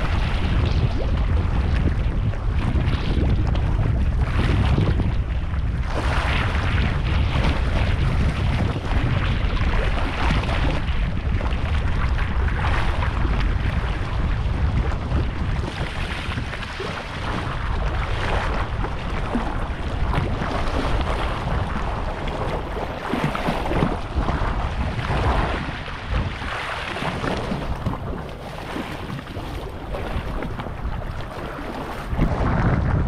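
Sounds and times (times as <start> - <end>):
waves sloshing over rocks: 0.0 - 33.0
wind buffeting microphone: 0.0 - 33.0.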